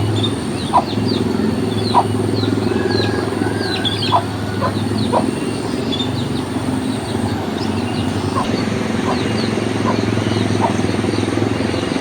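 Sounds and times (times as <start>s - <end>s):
birds chirping: 0.0s - 12.0s
low animal calls: 0.0s - 12.0s.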